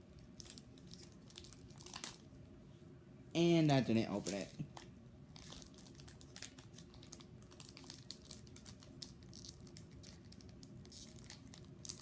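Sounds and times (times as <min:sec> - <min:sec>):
foil wrapper crinkling: 0:00.2 - 0:02.3, 0:04.1 - 0:12.0.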